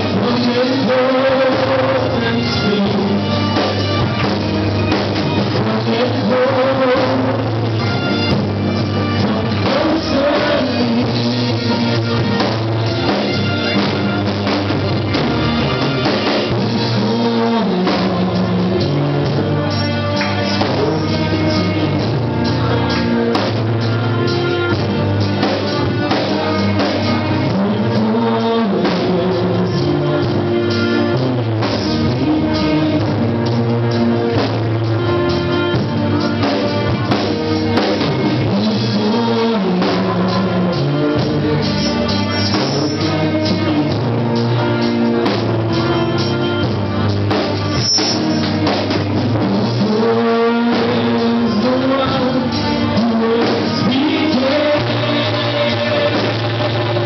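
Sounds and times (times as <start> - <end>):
drum kit beat: 0.0 - 57.0
live worship band: 0.0 - 57.0
people singing into microphones: 0.0 - 57.0.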